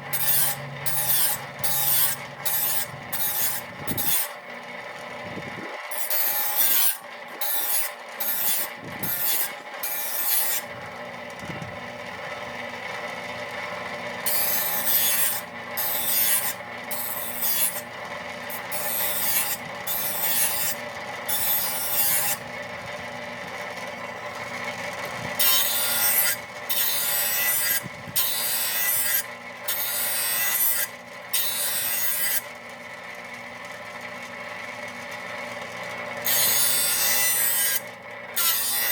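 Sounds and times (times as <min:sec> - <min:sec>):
blade grinding against wheel: 0:00.0 - 0:11.7, 0:13.5 - 0:23.2, 0:24.1 - 0:32.6, 0:35.5 - 0:38.9
electric grinder running: 0:00.0 - 0:38.9.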